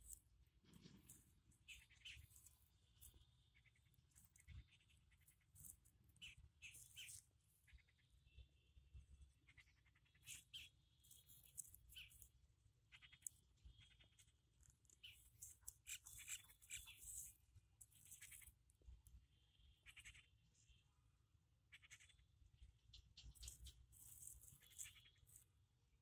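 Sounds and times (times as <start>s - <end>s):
small animals chirping: 0.0s - 8.5s, 9.4s - 18.7s, 19.6s - 20.4s, 21.6s - 25.6s.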